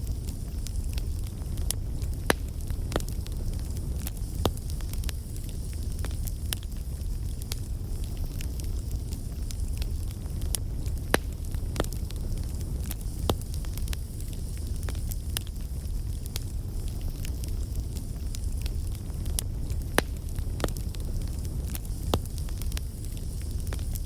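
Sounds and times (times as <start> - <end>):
burning wood crackling: 0.0 - 24.0
campfire flames rumbling: 0.0 - 24.0.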